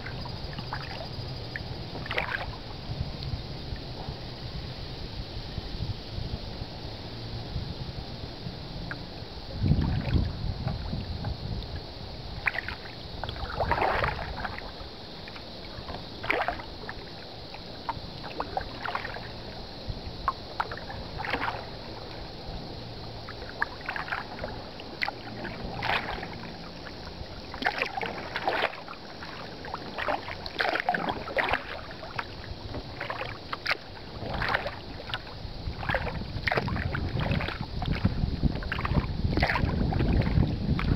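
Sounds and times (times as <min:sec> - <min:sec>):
paddle splashing in water: 0:00.0 - 0:02.7, 0:08.9 - 0:11.4, 0:12.3 - 0:22.4, 0:23.2 - 0:40.9.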